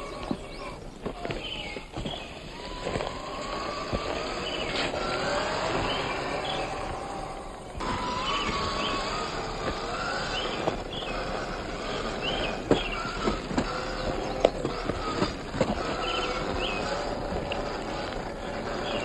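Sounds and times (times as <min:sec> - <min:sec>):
bird chirps: 0:00.0 - 0:17.7, 0:18.4 - 0:19.0
clicks and knocks on terrain: 0:00.0 - 0:19.0
toy car motor whine: 0:00.0 - 0:19.0.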